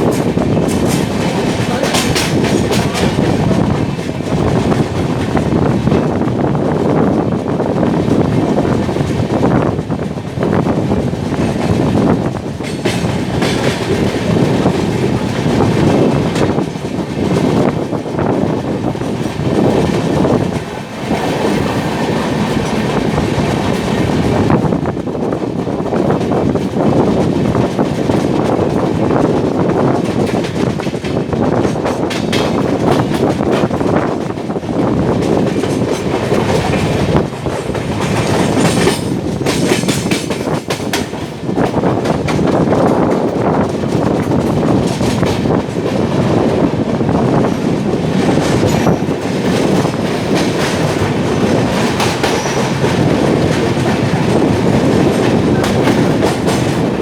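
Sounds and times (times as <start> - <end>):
passenger train rumbling past: 0.0 - 57.0
wheels clattering over rail joints: 0.0 - 57.0.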